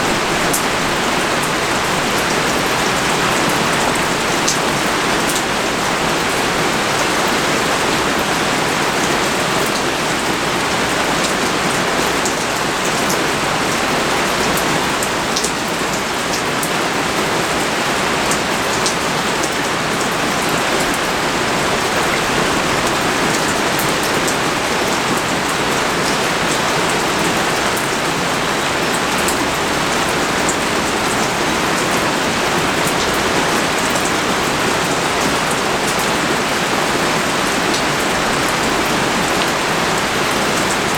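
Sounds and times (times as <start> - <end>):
pouring rain: 0.0 - 40.9
raindrops ticking on surfaces: 0.0 - 40.9.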